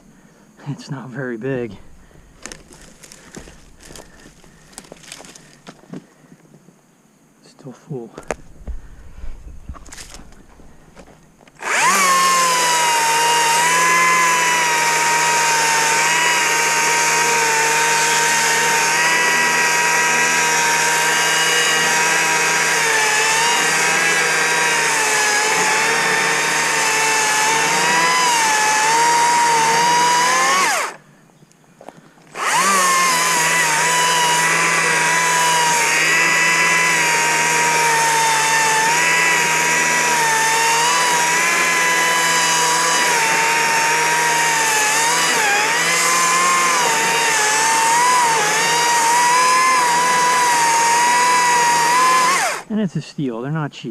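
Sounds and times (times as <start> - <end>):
battery chainsaw cutting wood: 1.7 - 5.8, 9.8 - 10.3, 11.0 - 31.0, 32.2 - 52.8.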